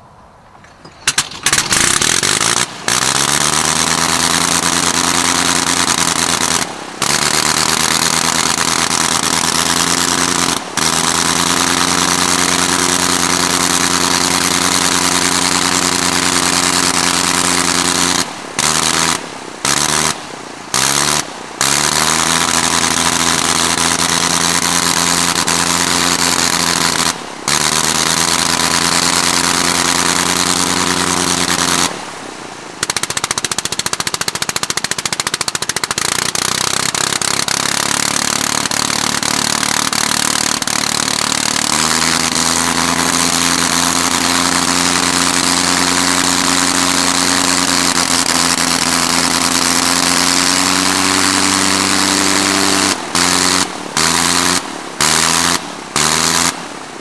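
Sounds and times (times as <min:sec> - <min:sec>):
rotary aircraft engine running: 0:00.0 - 0:57.0.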